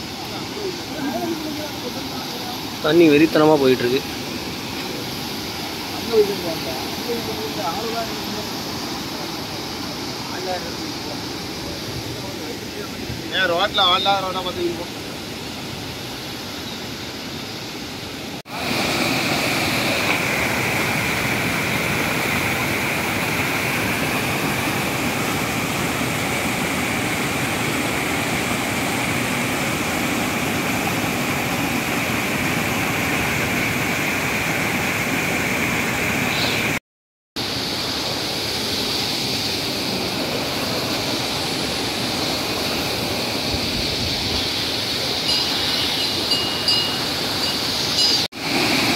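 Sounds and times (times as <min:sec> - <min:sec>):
stream rushing over rocks: 0:00.0 - 0:36.8, 0:37.4 - 0:48.9.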